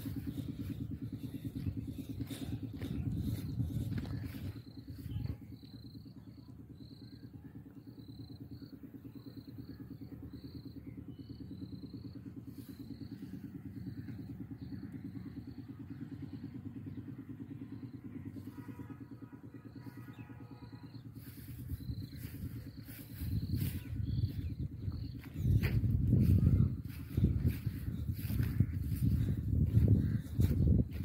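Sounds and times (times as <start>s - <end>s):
engine thumping steadily: 0.0s - 31.0s
low rumble of handling noise: 0.0s - 31.0s.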